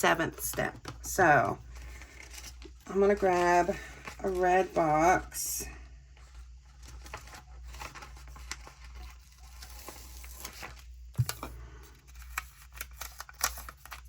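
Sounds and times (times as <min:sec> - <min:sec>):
paper sticker sheets rustling: 0:00.0 - 0:05.4, 0:06.1 - 0:14.0.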